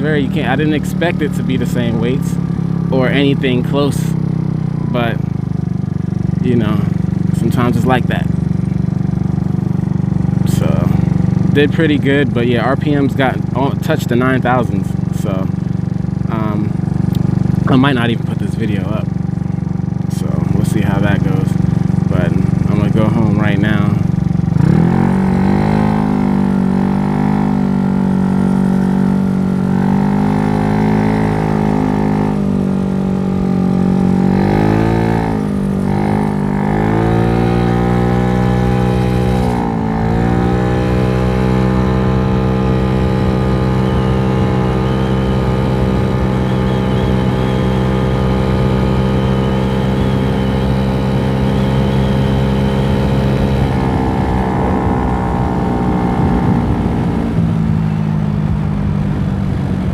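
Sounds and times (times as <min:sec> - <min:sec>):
scooter engine at high revs: 0:00.0 - 0:59.9.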